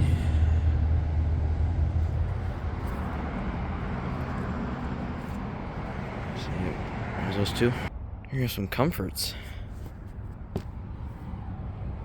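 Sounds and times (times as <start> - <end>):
low outdoor hum and rumble: 0.0 - 12.0.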